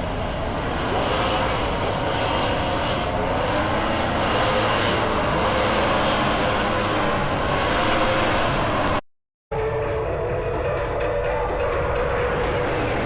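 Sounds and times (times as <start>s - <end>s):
aircraft engine drone: 0.0s - 9.0s, 9.6s - 13.0s.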